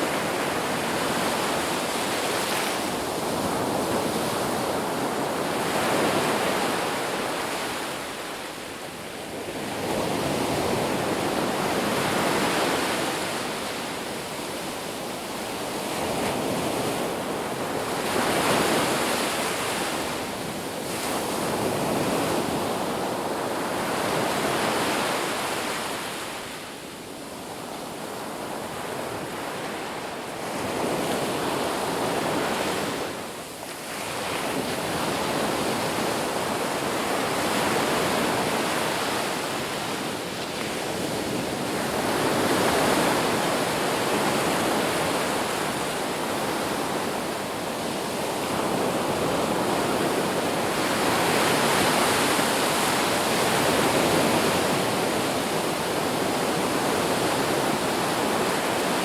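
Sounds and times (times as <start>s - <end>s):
ocean surf breaking on beach: 0.0s - 59.0s.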